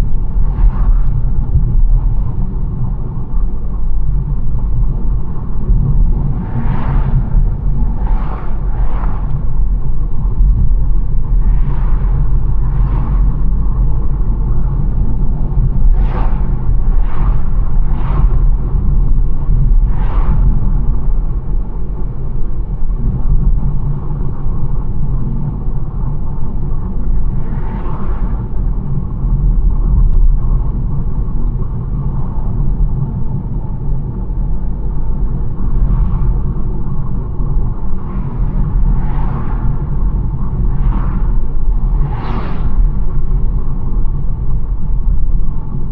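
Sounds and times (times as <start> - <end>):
car road and engine rumble: 0.0 - 45.9
rushing swells of noise: 0.0 - 45.9.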